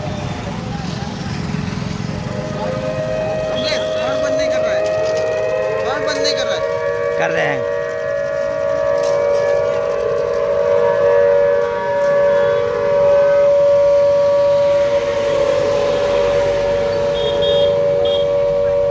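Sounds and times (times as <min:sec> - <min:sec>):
air-raid siren steady tone: 0:02.1 - 0:18.9.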